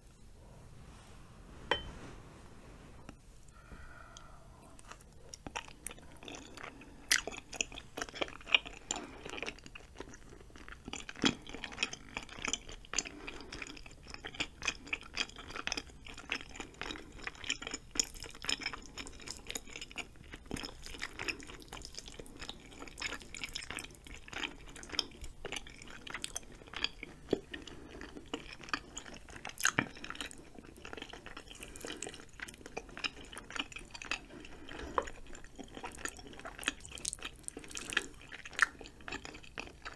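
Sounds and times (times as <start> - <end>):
close chewing with wet mouth clicks: 4.8 - 39.9.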